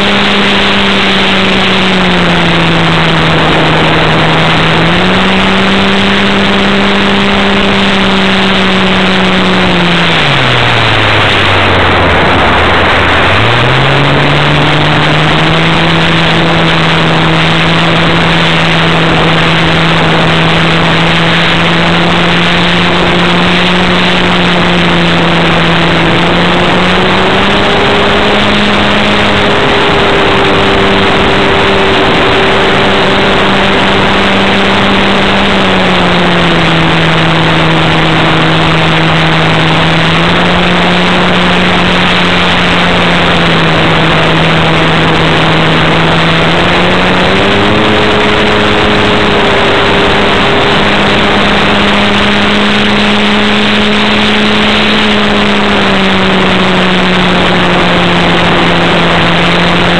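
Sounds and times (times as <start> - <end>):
model airplane engine: 0.0 - 59.9
rush of air: 0.0 - 59.9.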